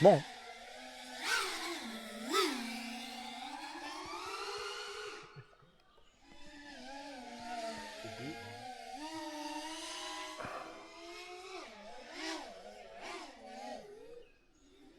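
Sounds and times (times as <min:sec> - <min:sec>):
quadcopter motors whining: 0:00.0 - 0:14.9.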